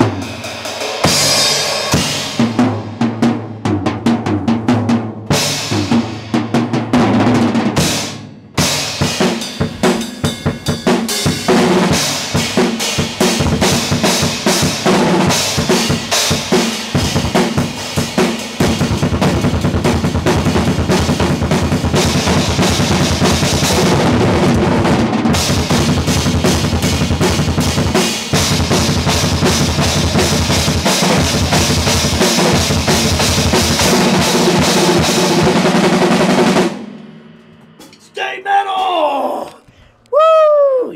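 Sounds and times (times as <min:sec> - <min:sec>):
drum kit played fast: 0:00.0 - 0:39.2.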